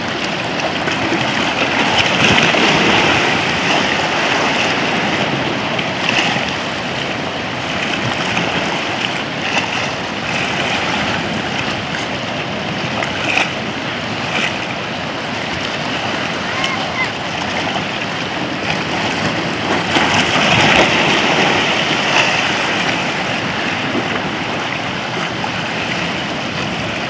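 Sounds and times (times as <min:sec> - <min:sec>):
water splashes: 0:00.0 - 0:27.0
waves washing around rocks: 0:00.0 - 0:27.0.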